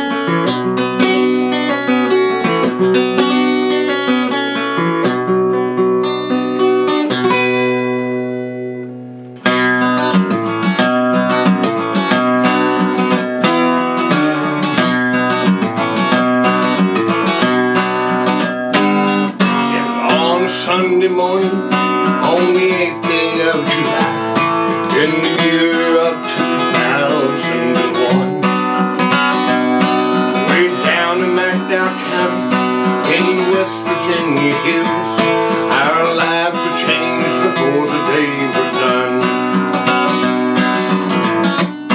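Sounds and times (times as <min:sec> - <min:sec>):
fingerpicked acoustic guitar: 0:00.0 - 0:41.9.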